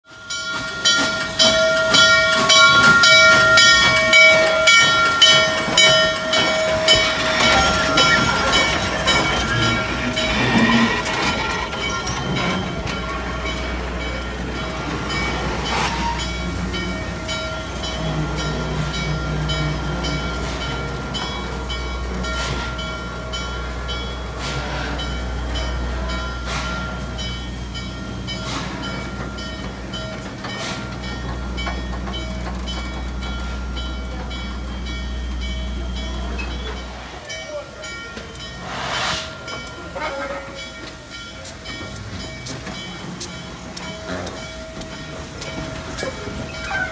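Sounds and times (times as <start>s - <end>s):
steam locomotive rumble: 0.0s - 46.9s.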